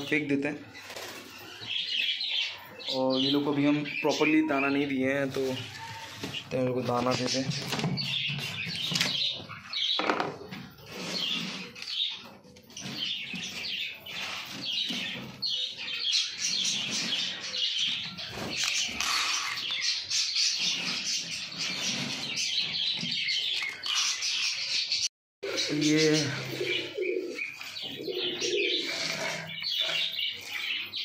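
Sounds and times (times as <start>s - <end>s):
budgies chirping: 0.0s - 31.0s.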